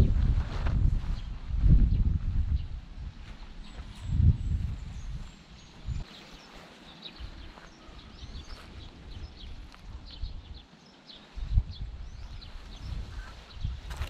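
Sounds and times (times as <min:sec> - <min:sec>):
wind buffeting microphone: 0:00.0 - 0:14.0
small birds chirping: 0:01.0 - 0:14.0.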